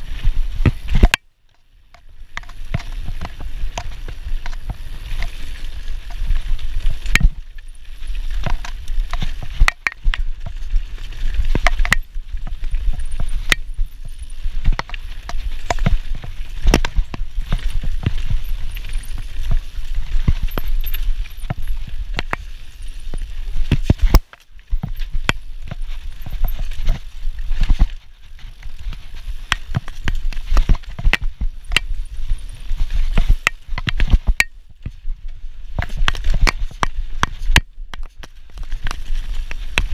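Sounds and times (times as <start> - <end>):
bike tyres on dirt: 0.0 - 39.9
bike clattering over bumps: 2.0 - 34.9.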